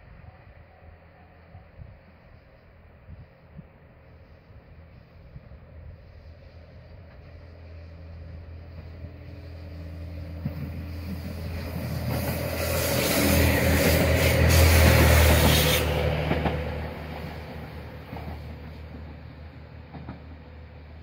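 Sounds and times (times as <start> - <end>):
railcar diesel engine drone: 0.0 - 21.0
wheel-on-rail noise: 3.5 - 21.0.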